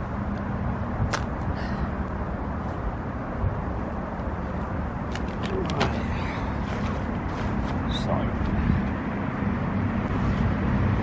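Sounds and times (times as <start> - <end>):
low drone with faint hum: 0.0 - 11.0.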